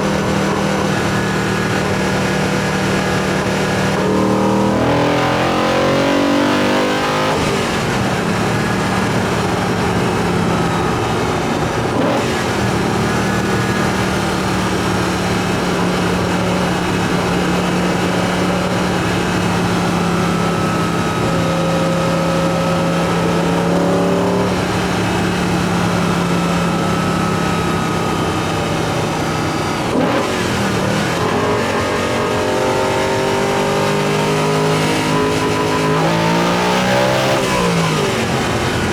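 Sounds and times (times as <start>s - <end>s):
car engine intake drone: 0.0s - 38.9s
engine revving up: 0.0s - 38.9s.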